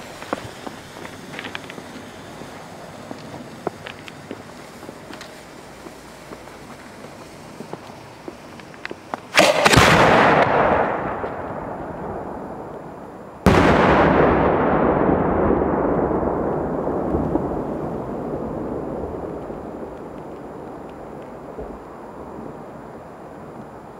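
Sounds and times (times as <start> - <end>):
firework bangs: 0.0 - 23.2
rolling echo: 0.2 - 23.9.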